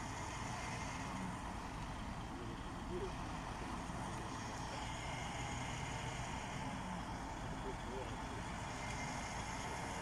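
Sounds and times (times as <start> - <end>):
crane engine running: 0.0 - 10.0.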